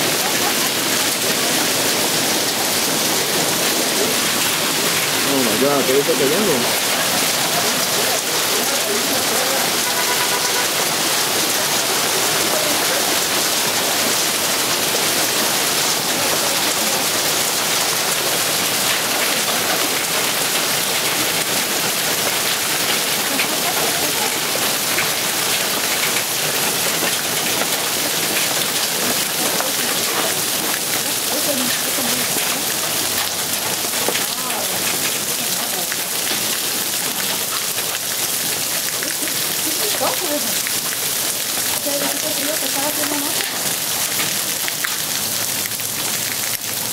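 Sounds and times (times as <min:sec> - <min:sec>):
hail and rain falling hard: 0:00.0 - 0:46.9.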